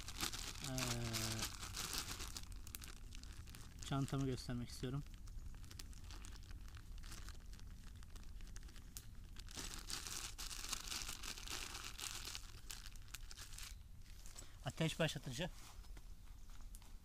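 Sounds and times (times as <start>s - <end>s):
plastic zip bag crinkling: 0.0s - 13.8s.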